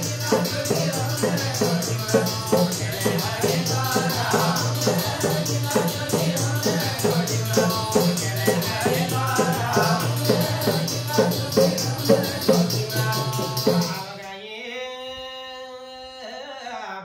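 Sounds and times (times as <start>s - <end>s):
drum beating steady rhythm: 0.0s - 14.2s
jingling percussion: 0.0s - 14.2s.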